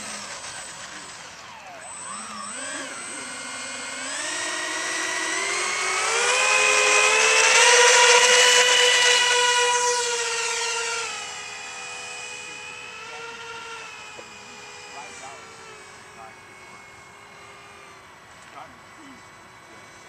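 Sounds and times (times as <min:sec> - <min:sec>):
model jet engines whining: 0:00.0 - 0:20.0.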